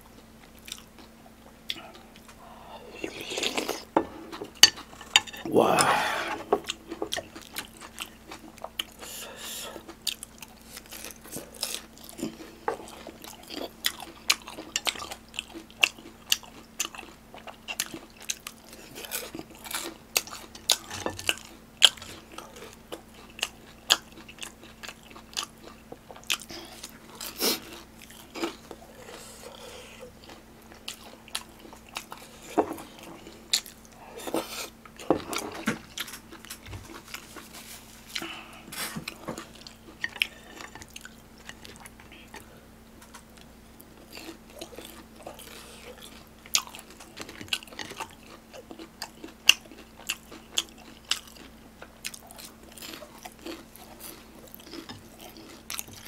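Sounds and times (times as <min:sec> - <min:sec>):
faint steady hum: 0:00.0 - 0:56.0
person chewing crunchy food: 0:00.0 - 0:56.0.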